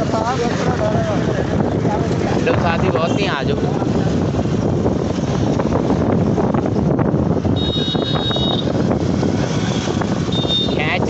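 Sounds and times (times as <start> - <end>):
auto-rickshaw engine and road rumble: 0.0 - 11.0
wind buffeting microphone: 0.0 - 11.0.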